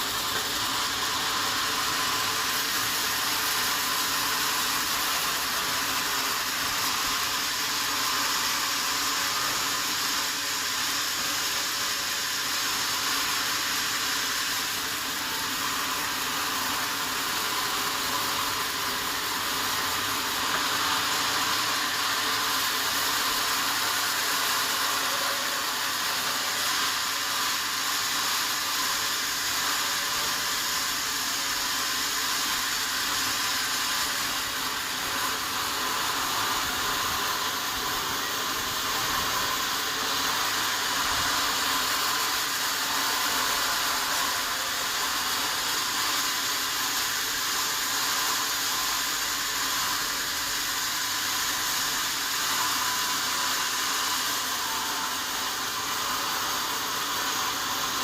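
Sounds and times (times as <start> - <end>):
sawmill saw cutting wood: 0.0 - 58.0.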